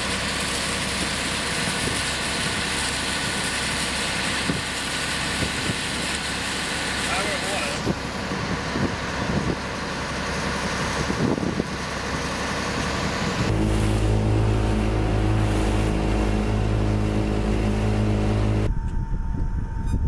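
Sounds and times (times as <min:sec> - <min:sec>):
boat engine droning: 0:00.0 - 0:19.9
wind: 0:00.0 - 0:20.0.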